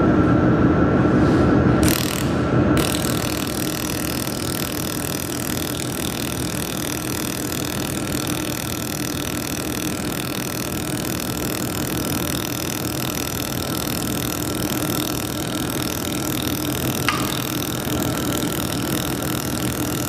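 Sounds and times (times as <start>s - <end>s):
machine hum: 0.0s - 20.0s
laser welder hissing: 1.8s - 20.0s.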